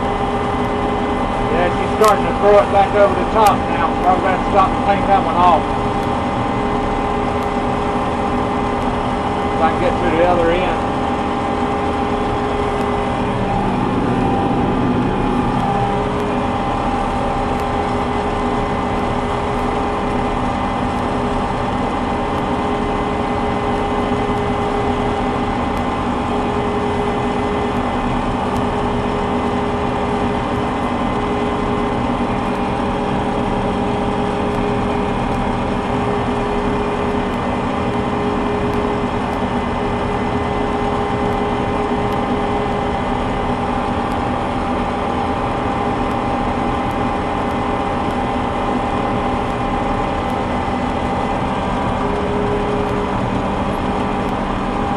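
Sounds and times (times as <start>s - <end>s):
combine harvester engine rumble: 0.0s - 54.9s
held whining tones: 0.0s - 54.9s.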